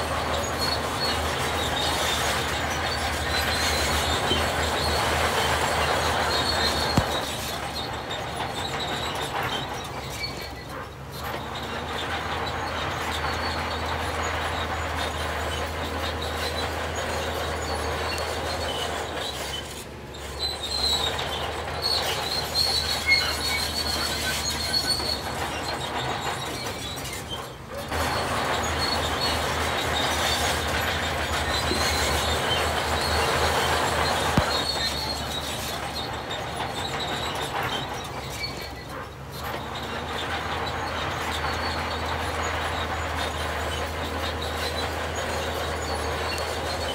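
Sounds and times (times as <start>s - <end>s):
diesel machinery rumble: 0.0s - 46.9s
metallic squealing and clatter: 0.0s - 46.9s.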